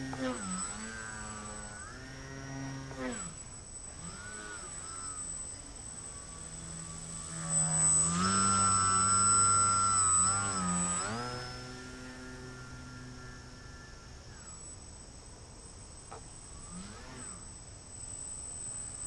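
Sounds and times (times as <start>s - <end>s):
electric motor and propeller whining: 0.0s - 19.0s.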